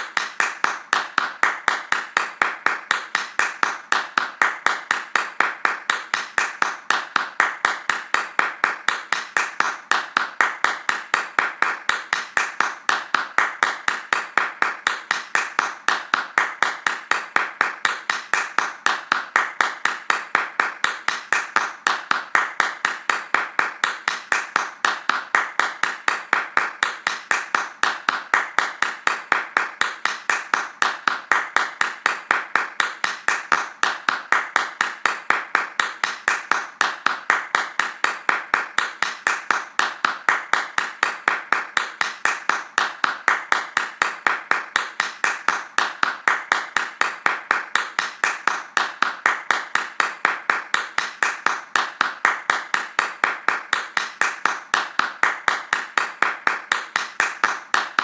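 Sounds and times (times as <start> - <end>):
hands clapping fast: 0.0 - 58.0.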